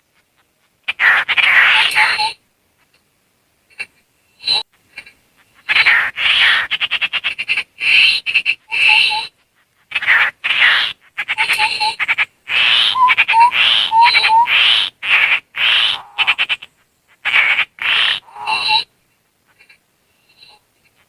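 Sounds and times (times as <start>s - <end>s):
rasping rattling bird calls: 0.2s - 3.0s, 3.7s - 21.0s.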